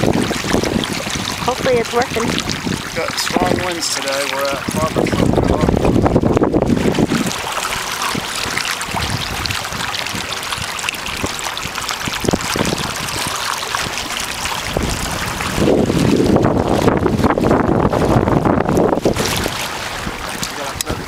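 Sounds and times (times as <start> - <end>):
water lapping against hull: 0.0 - 21.0
water slaps: 0.0 - 21.0
wind buffeting microphone: 0.0 - 21.0.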